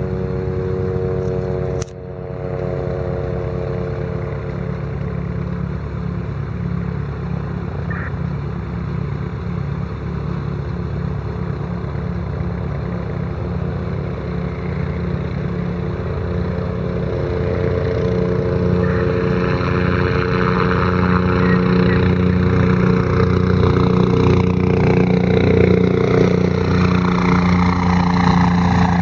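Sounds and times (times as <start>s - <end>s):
helicopter engine tone: 0.0s - 29.0s
helicopter rotor beating: 0.0s - 29.0s.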